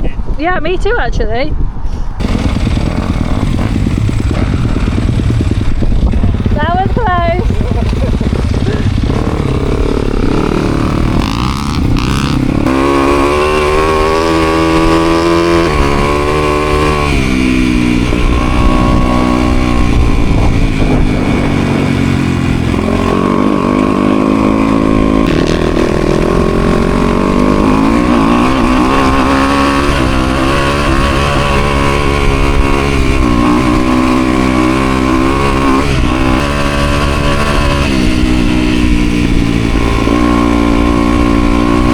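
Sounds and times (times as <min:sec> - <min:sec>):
dirt bike engine revving: 0:02.2 - 0:41.9.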